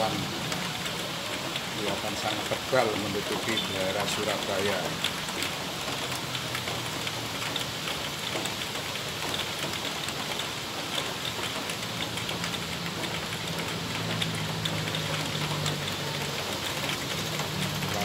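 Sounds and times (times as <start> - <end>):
rain on metal roof: 0.0 - 18.0
road traffic hum: 0.0 - 18.0.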